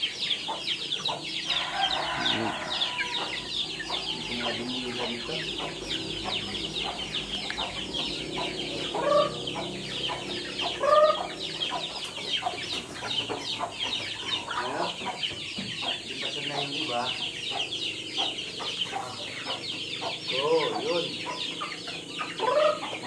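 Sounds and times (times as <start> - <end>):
chickens clucking: 0.0 - 23.0
chicks peeping: 0.0 - 23.0.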